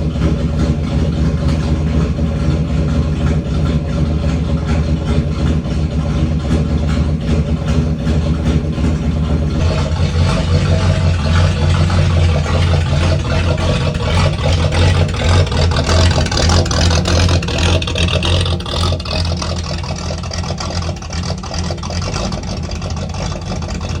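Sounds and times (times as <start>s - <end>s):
car engine idling unevenly: 0.0s - 24.0s.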